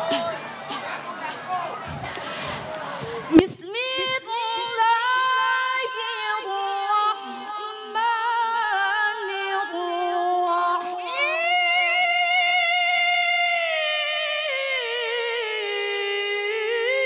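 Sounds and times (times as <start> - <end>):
woman reciting melodically: 3.0 - 17.0.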